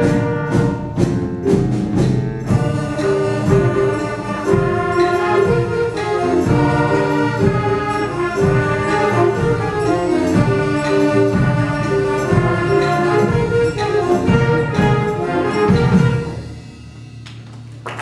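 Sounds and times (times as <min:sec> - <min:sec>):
jazz band playing: 0:00.0 - 0:18.0.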